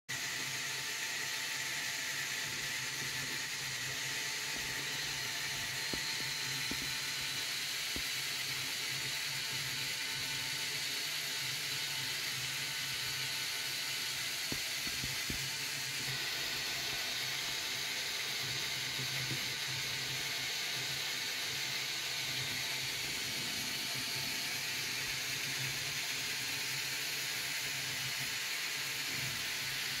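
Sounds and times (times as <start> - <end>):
motor-driven gears whirring: 0.2 - 30.0.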